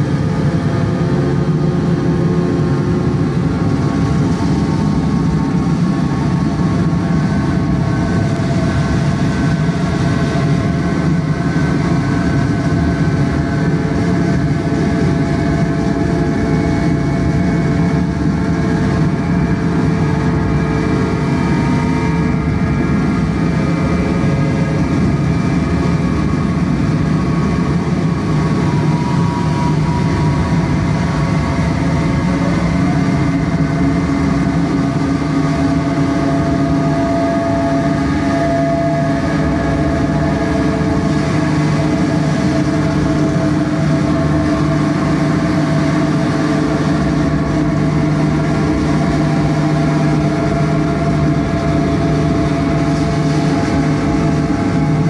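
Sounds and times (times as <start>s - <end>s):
electronic noise music drone: 0.0s - 55.0s.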